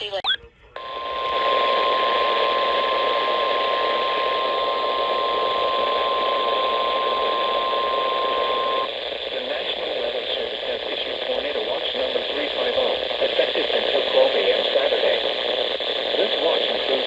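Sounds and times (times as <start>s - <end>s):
radio static: 0.0s - 17.0s.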